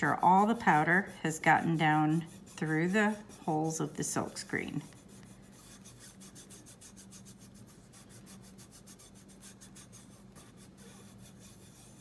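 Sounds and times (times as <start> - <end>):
fingertips rubbing on mesh: 0.0 - 12.0
steady low hum: 0.0 - 12.0.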